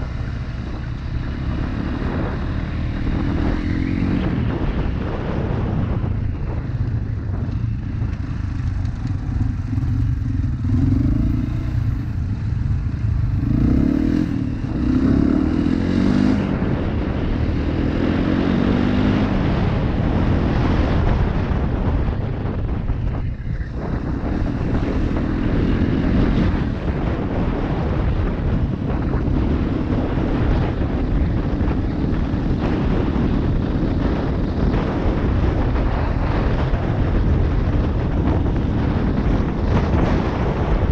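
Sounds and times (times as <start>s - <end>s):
motorcycle engine accelerating: 0.0s - 40.9s
wind rumble on microphone: 0.0s - 40.9s.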